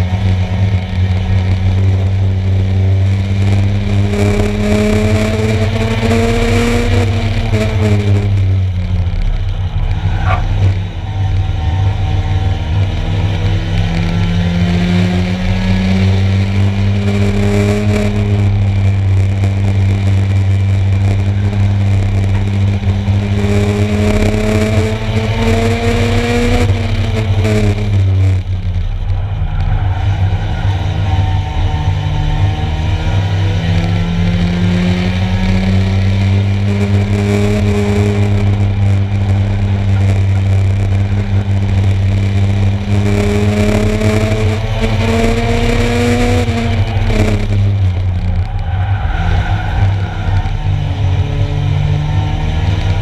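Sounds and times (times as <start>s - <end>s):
low drone: 0.0s - 53.0s
stock car engines racing: 0.0s - 53.0s.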